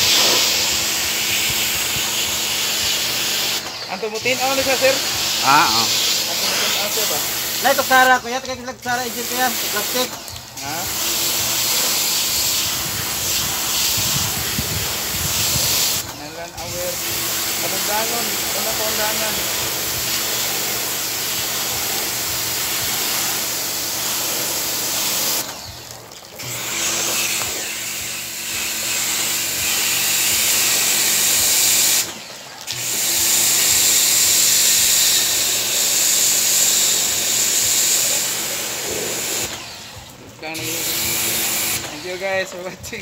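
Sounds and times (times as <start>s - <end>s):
pressure washer spray hissing: 0.0s - 43.0s
pump motor humming: 0.0s - 43.0s.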